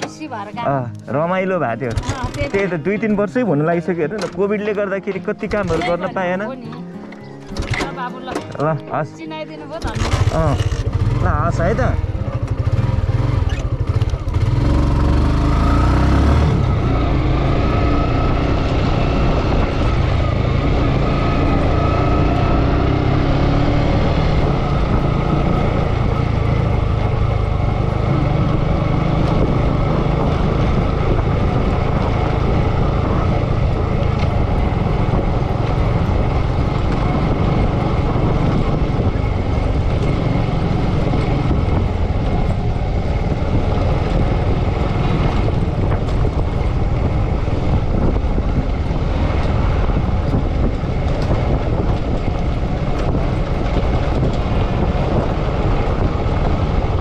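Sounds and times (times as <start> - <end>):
motorcycle engine running: 1.7 - 3.4, 9.7 - 57.0
wind rumble on microphone: 9.8 - 57.0.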